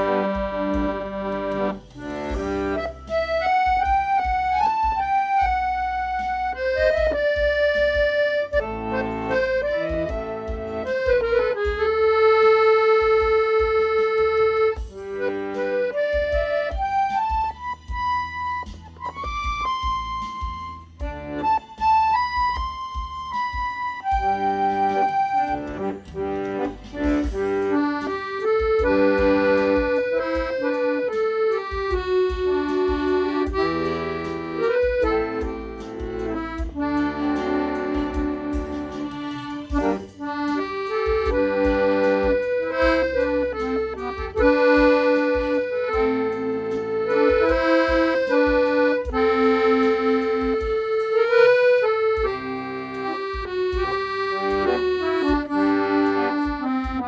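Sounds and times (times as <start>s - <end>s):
accordion playing slow melody: 0.0s - 57.0s
backing track with bass and beat: 0.0s - 57.0s.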